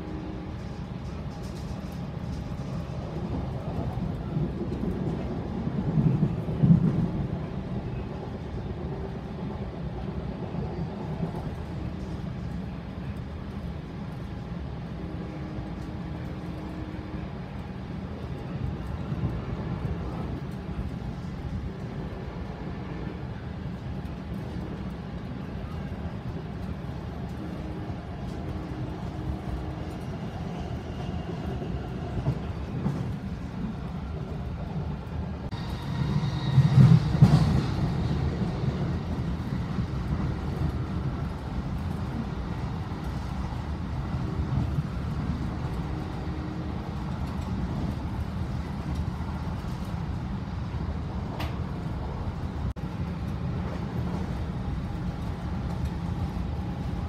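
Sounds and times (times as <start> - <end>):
moving train rumble: 0.0 - 57.0.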